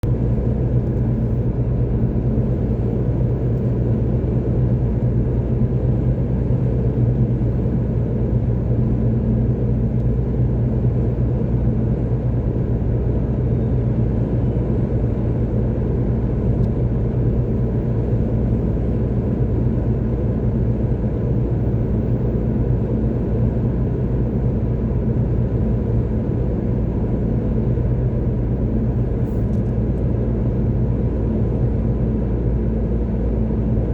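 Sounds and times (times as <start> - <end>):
car driving on motorway: 0.0 - 33.9.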